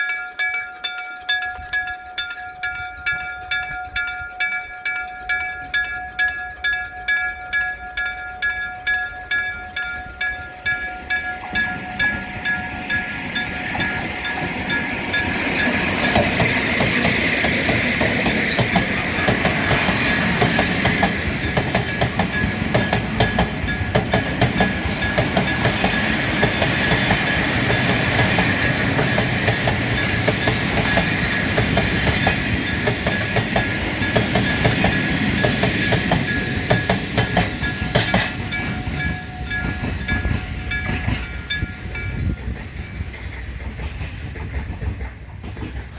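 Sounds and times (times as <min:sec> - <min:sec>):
train wheels clacking over rails: 0:00.0 - 0:45.9.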